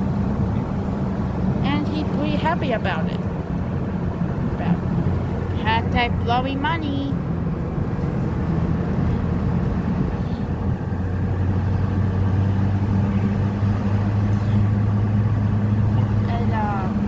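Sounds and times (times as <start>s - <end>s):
low engine hum: 0.0s - 17.0s
road and tyre noise: 0.0s - 17.0s.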